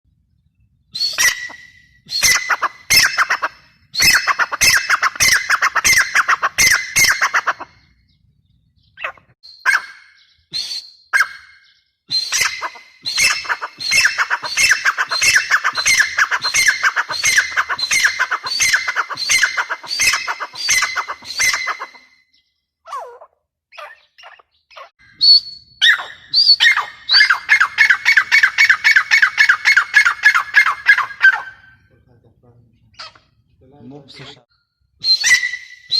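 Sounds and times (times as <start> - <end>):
francolin calling: 1.0 - 8.0, 8.8 - 31.8.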